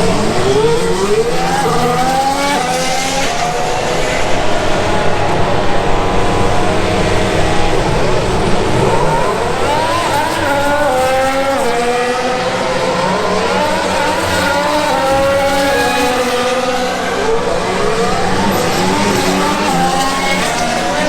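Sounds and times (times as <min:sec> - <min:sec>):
racing car engines accelerating: 0:00.0 - 0:21.0.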